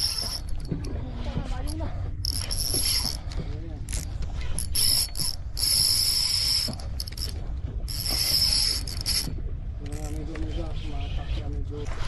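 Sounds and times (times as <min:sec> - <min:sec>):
fishing reel gears whirring: 0:00.0 - 0:10.2.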